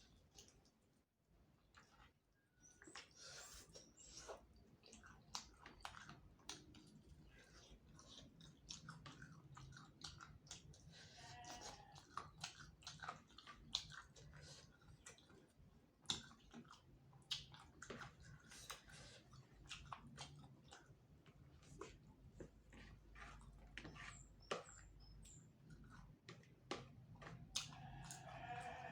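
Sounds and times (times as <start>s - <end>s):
chewing crunchy bones: 2.8s - 28.9s.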